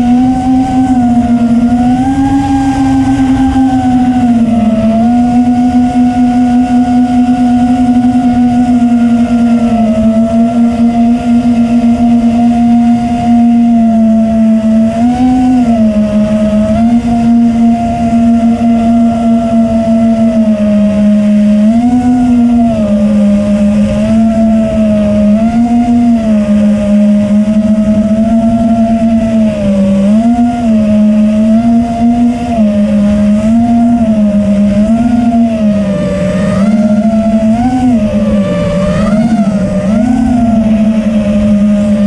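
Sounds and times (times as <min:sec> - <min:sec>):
drone motors whining: 0:00.0 - 0:42.0
wind rush on microphone: 0:00.0 - 0:42.0.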